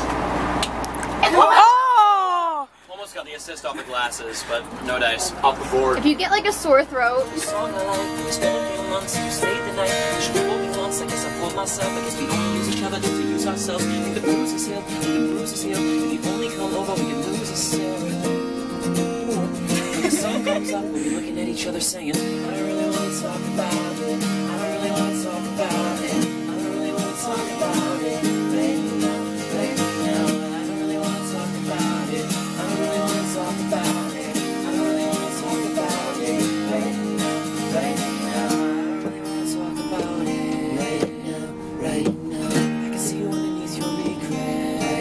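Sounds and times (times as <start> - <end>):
acoustic guitar strumming: 4.8 - 45.0.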